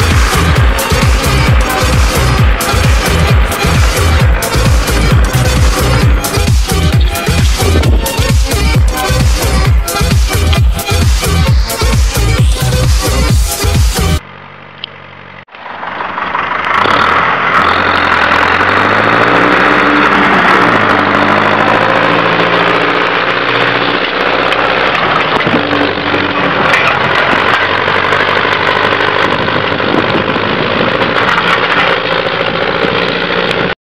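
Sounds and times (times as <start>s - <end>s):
tractor diesel engine running: 0.0s - 33.8s.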